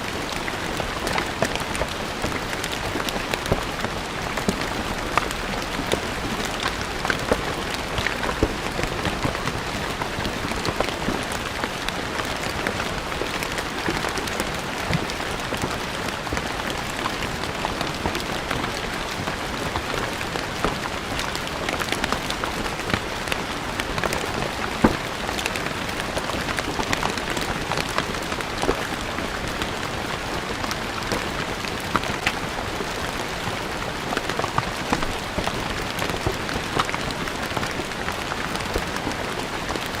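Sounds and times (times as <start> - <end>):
rain falling on stone: 0.0 - 40.0
raindrops tapping: 0.0 - 40.0.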